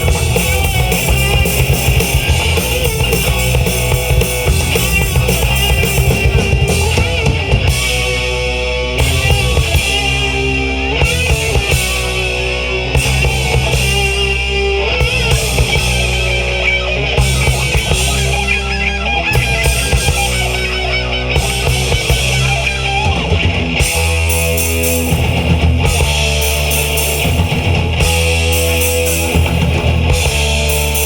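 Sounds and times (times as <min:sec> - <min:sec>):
rock band playing heavy riff: 0:00.0 - 0:31.0.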